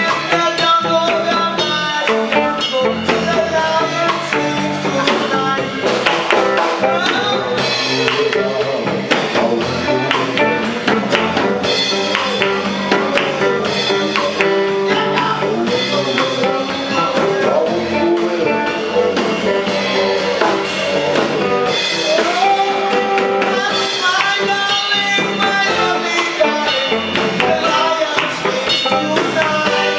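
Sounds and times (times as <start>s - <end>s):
drum kit beat: 0.0s - 29.9s
electric guitar: 0.0s - 29.9s.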